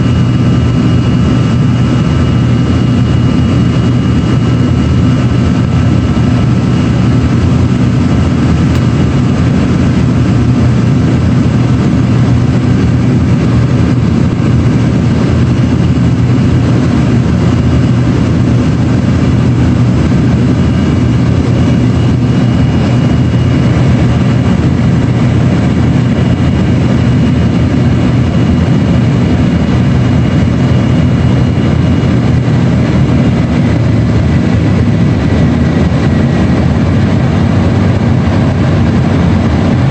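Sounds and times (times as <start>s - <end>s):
jet cabin engine and airflow rush: 0.0s - 39.9s.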